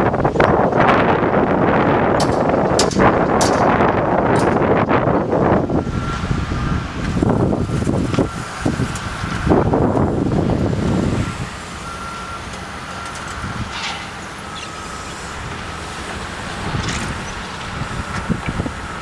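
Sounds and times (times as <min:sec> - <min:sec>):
heavy machinery rumble: 0:00.0 - 0:19.0
wind buffeting microphone: 0:00.0 - 0:19.0.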